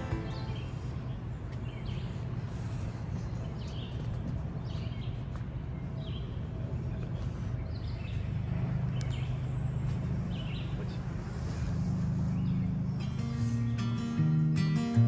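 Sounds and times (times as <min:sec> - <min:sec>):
steady low rumble: 0:00.0 - 0:14.2.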